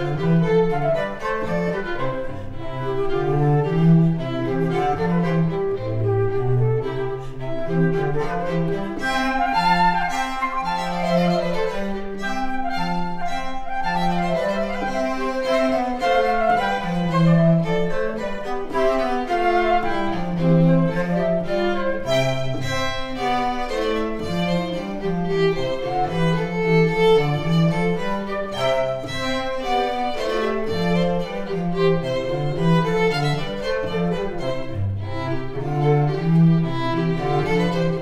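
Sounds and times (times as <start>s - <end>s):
bowed strings melody: 0.0s - 38.0s.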